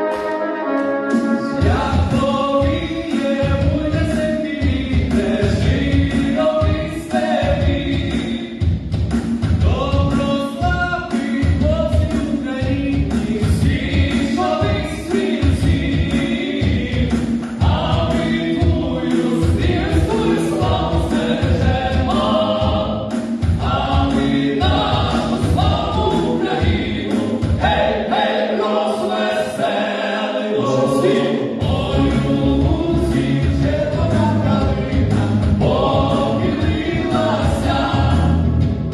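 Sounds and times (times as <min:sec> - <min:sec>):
choir singing over a beat: 0:00.0 - 0:38.9.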